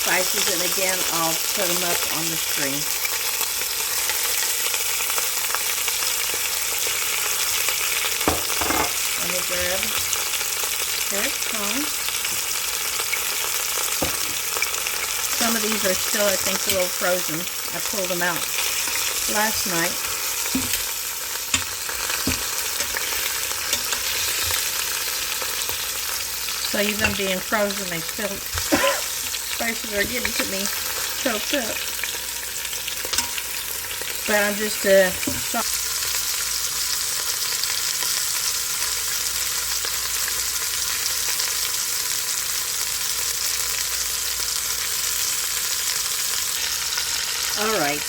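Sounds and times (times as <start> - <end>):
chicken sizzling in oil: 0.0 - 48.0.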